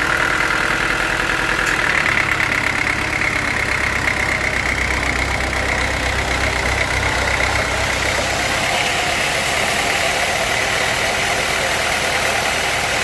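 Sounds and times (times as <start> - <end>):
engine hum: 0.0 - 13.0
sawmill machinery whine: 0.0 - 13.0.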